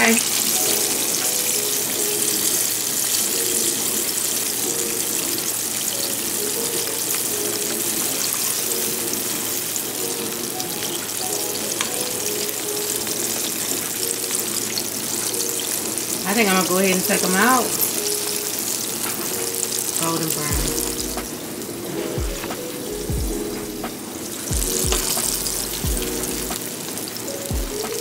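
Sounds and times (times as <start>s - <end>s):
fish deep-frying in hot oil: 0.0s - 28.0s.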